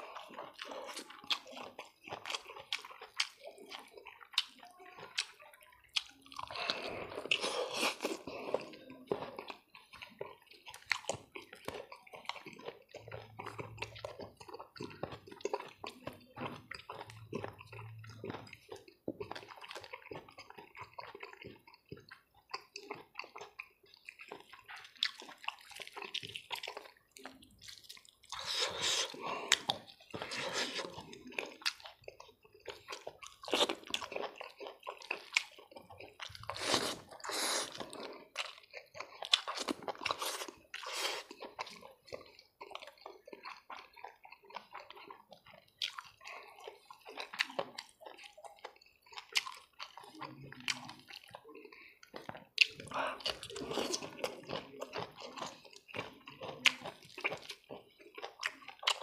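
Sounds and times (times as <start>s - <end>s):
wet chewing and mouth smacks: 0.0s - 59.0s.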